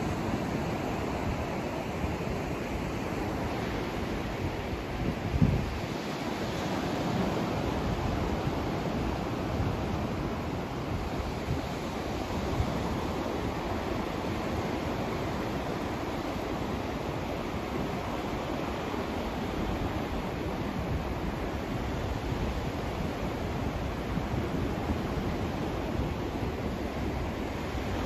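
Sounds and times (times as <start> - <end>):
white noise hiss: 0.0 - 28.0.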